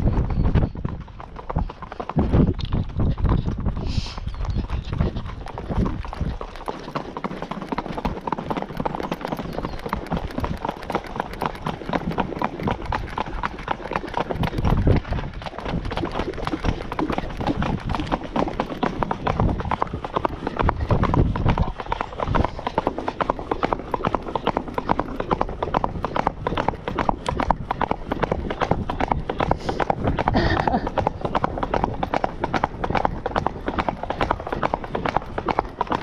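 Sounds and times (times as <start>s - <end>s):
hoofbeats on paved road: 0.0s - 36.0s.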